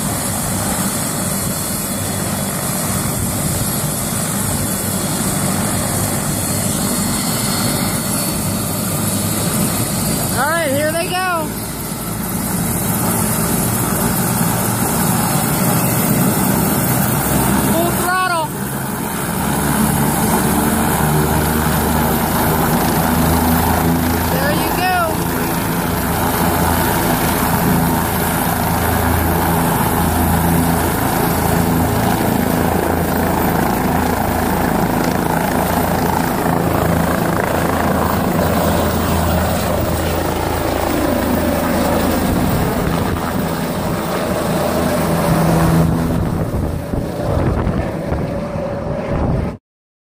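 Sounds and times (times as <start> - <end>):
helicopter rotor and engine: 0.0 - 49.6.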